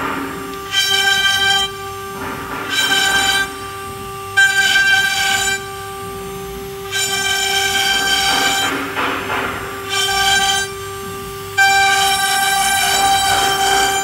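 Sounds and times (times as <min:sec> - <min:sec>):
router spindle whine: 0:00.0 - 0:14.0.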